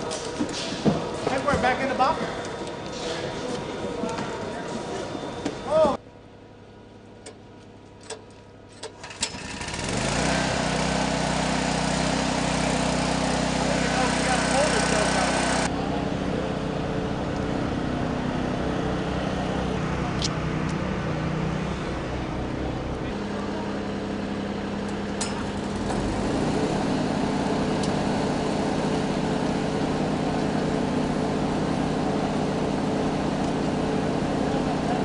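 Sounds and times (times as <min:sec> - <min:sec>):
generator engines droning: 0:00.0 - 0:35.0.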